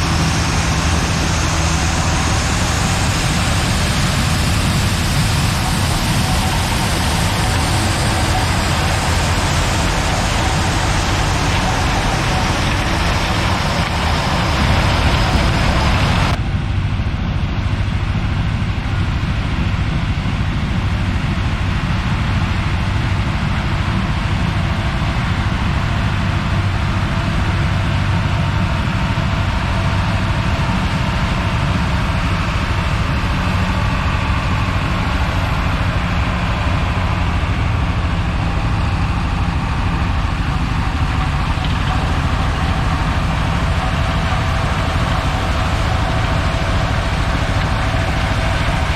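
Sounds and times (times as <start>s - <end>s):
diesel engine running: 0.0s - 48.9s
rushing noise: 0.0s - 48.9s.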